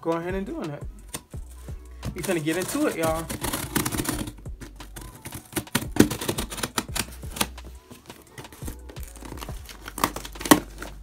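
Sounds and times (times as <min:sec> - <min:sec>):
scissor blade slitting packing tape: 0:02.1 - 0:11.0.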